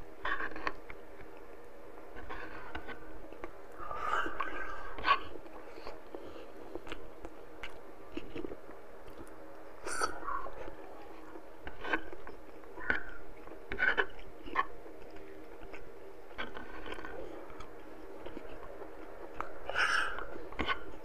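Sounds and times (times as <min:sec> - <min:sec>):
chewing food: 0:00.0 - 0:21.0.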